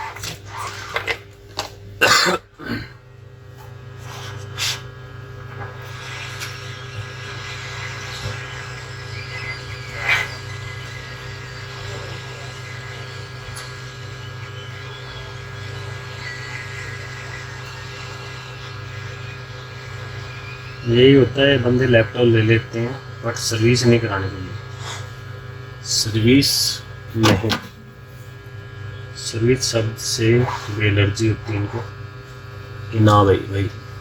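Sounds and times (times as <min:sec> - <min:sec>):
hot-air blower hissing: 0:00.0 - 0:34.0
low electrical hum: 0:00.0 - 0:34.0.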